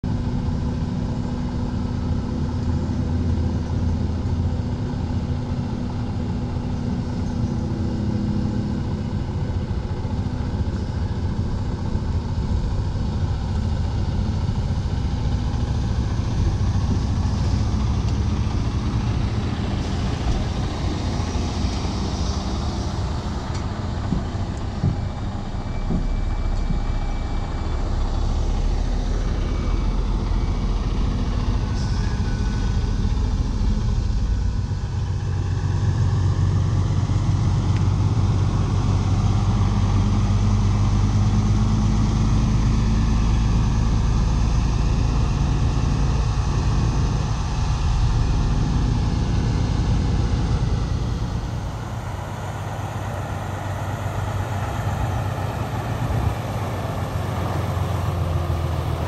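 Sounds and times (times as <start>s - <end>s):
truck diesel engine rumbling: 0.0s - 59.0s.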